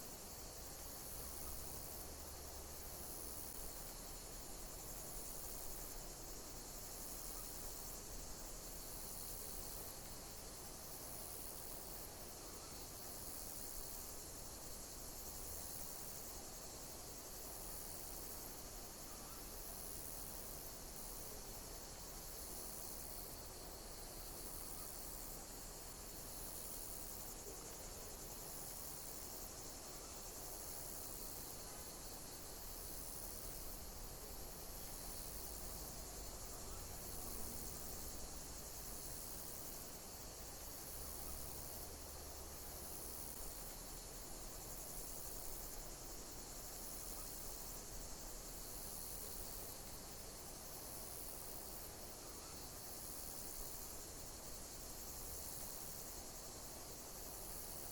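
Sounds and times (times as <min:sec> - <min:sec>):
insects chirping: 0:00.0 - 0:57.9
steady background hiss: 0:00.0 - 0:57.9.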